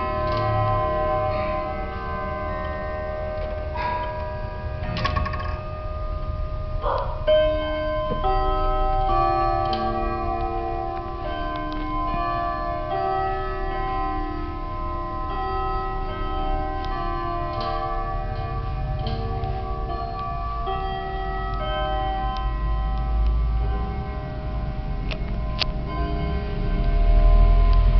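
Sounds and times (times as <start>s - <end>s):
wall clocks striking gongs: 0.0s - 27.9s.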